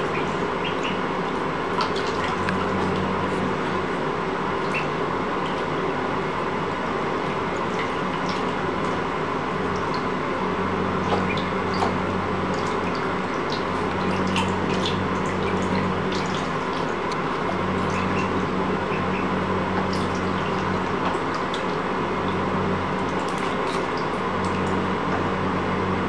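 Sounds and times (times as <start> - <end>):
bathwater splashing and dripping: 0.0 - 5.9, 7.1 - 10.2, 10.9 - 25.3
steady low hum: 0.0 - 26.0.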